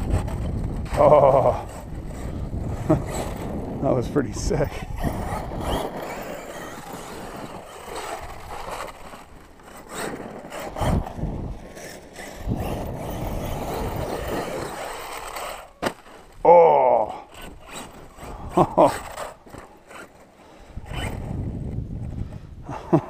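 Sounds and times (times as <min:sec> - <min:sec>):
gravel crunching and scraping: 0:00.0 - 0:23.0.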